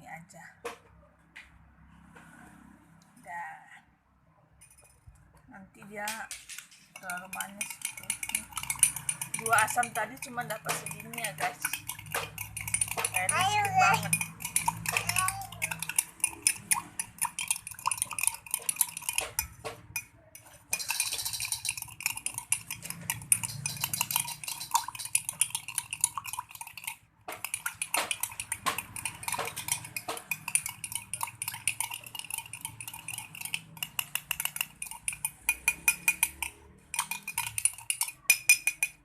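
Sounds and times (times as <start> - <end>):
spoon clinking in a glass: 6.9 - 39.0.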